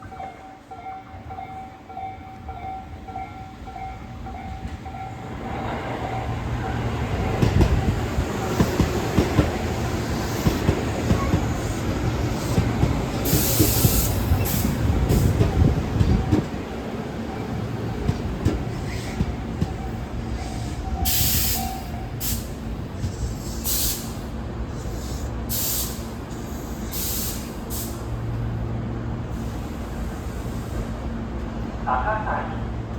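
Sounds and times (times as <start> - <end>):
electric train rumble: 0.0 - 32.9.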